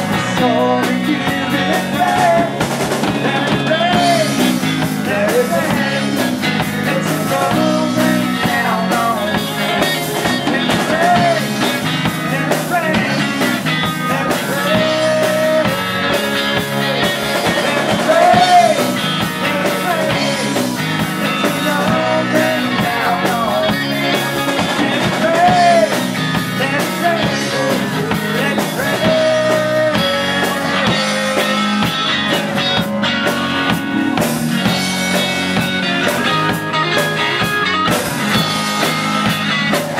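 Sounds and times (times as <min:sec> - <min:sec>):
person singing: 0:00.0 - 0:32.5
bass guitar: 0:00.0 - 0:39.9
drum kit: 0:00.0 - 0:39.9
electric guitar: 0:00.0 - 0:39.9.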